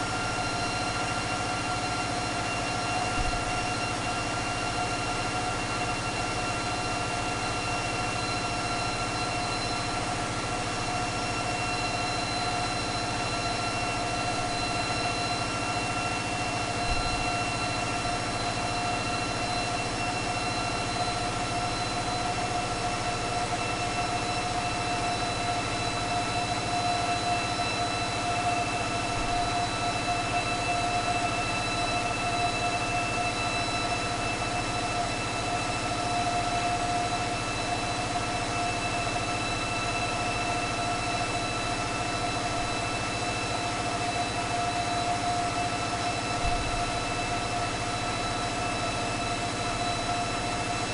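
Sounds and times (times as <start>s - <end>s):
steady high whine: 0.0s - 50.9s.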